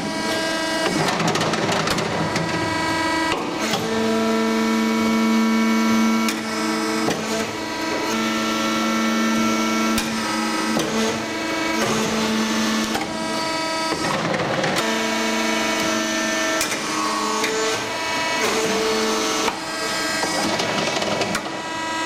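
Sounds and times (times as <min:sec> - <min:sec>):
hydraulic press hum: 0:00.0 - 0:22.0.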